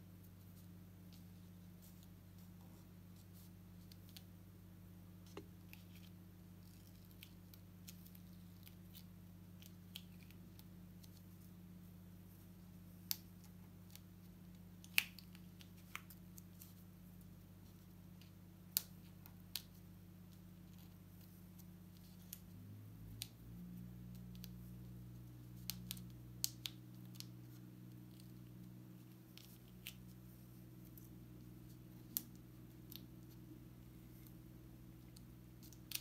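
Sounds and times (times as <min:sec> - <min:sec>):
faint hum: 0:00.0 - 0:36.0.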